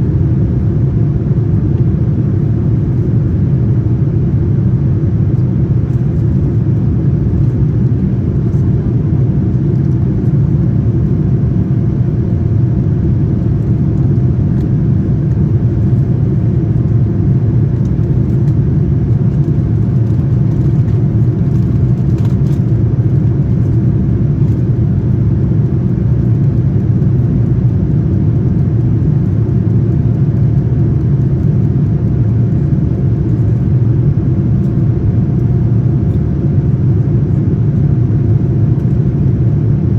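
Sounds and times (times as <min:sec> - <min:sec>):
airliner engines rumbling in cabin: 0:00.0 - 0:39.9
faint steady hum: 0:00.0 - 0:39.9.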